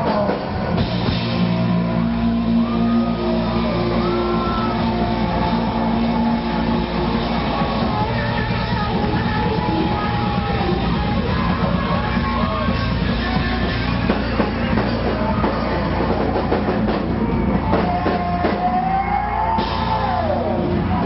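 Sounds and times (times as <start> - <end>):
drum kit: 0.0 - 21.0
electric guitar: 0.0 - 21.0
live rock band: 0.0 - 21.0.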